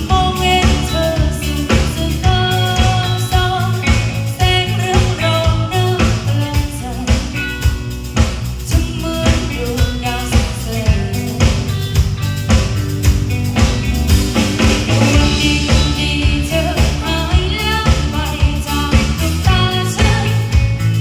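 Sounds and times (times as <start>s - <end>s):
band music: 0.0s - 21.0s
bass line: 0.0s - 21.0s
steady drum beat: 0.0s - 21.0s.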